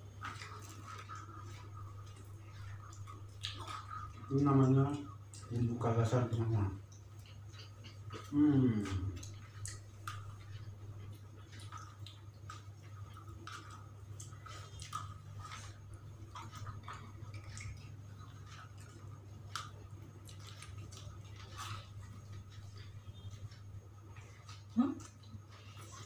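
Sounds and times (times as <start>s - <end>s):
person chewing: 0.0s - 26.0s
steady low hum: 0.0s - 26.0s.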